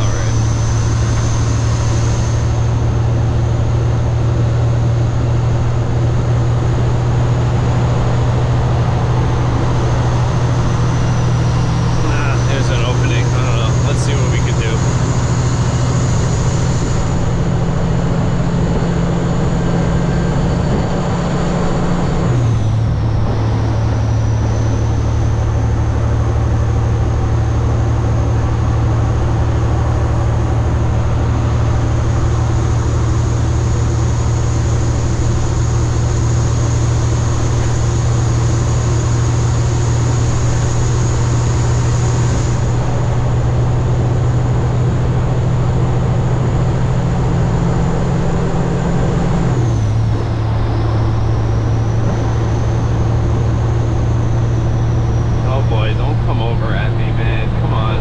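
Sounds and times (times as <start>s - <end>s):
truck diesel engine from cab: 0.0s - 58.0s.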